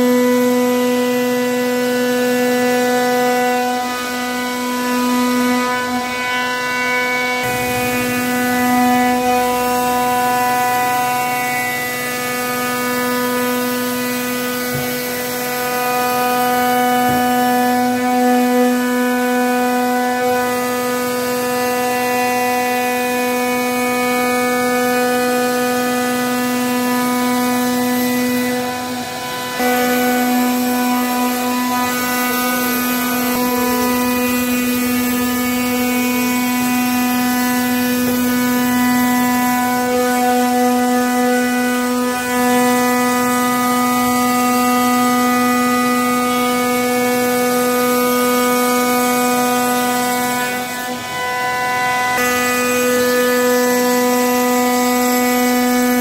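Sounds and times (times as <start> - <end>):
router cutting wood: 0.0 - 56.0.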